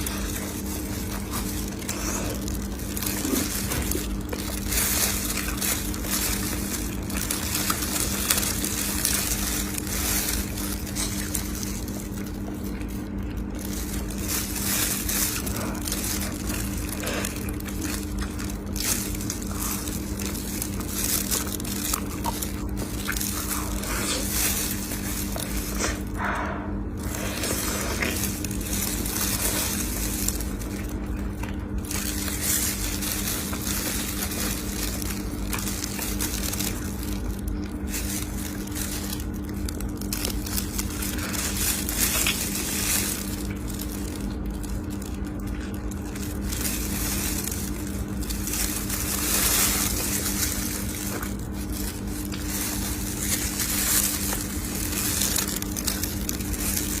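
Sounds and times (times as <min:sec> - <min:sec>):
low electrical hum: 0:00.0 - 0:57.0
person chewing and crunching food: 0:00.0 - 0:57.0.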